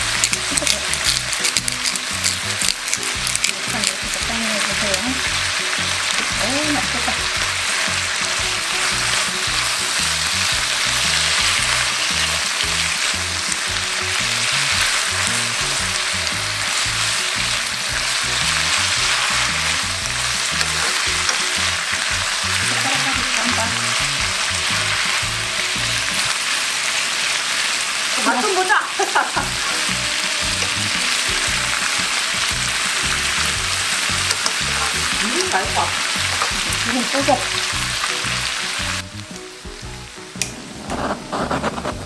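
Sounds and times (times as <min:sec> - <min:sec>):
chopsticks turning meat in pan: 0:00.0 - 0:42.0
pork sizzling in a frying pan: 0:00.0 - 0:42.0.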